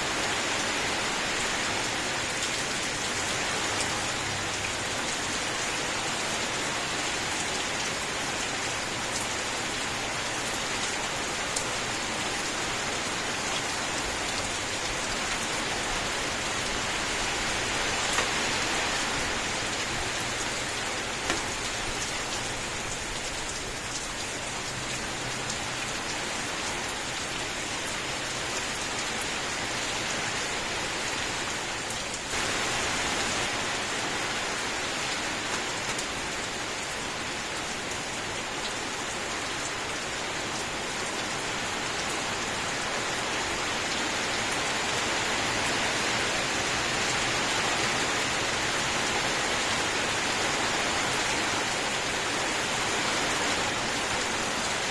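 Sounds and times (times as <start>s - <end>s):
rain on a hard surface: 0.0s - 54.9s.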